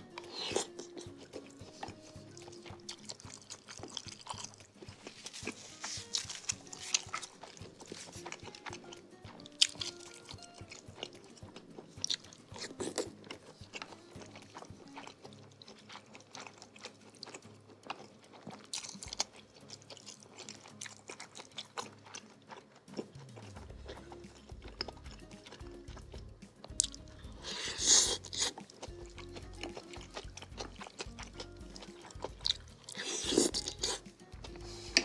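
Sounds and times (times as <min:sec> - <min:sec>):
person chewing and biting: 0:00.0 - 0:35.0
soft background music: 0:00.0 - 0:35.0.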